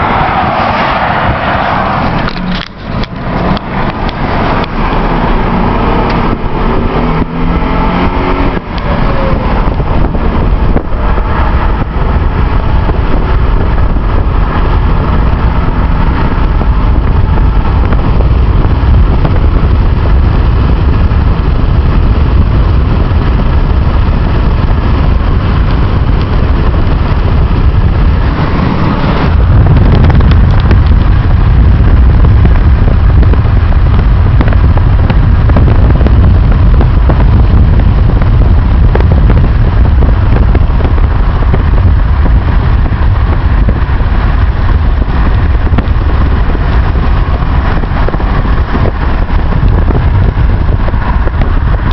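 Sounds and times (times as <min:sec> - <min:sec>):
road noise: 0:00.0 - 0:51.9
wind buffeting microphone: 0:00.0 - 0:51.9.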